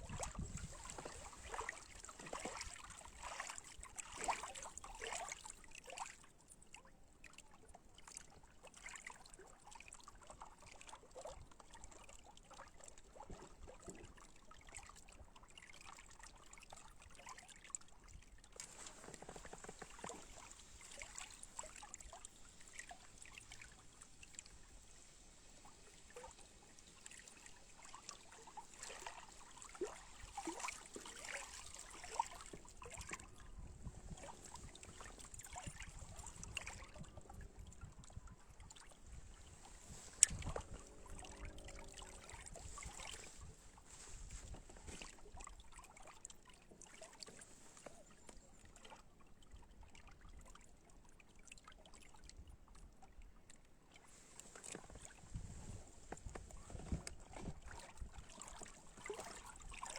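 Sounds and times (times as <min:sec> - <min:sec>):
small clicks and splashes: 0:00.0 - 0:59.9
water lapping and trickling: 0:00.0 - 0:59.9.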